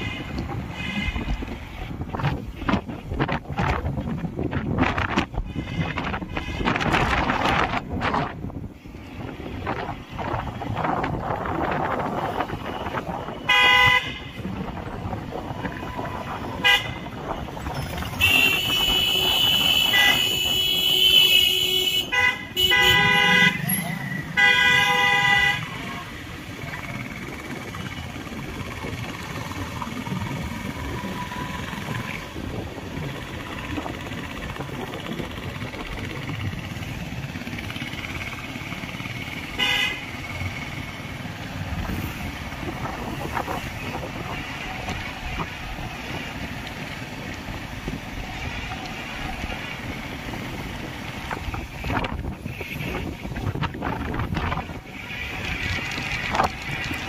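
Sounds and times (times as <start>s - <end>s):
vehicle road and engine noise: 0.0s - 57.0s.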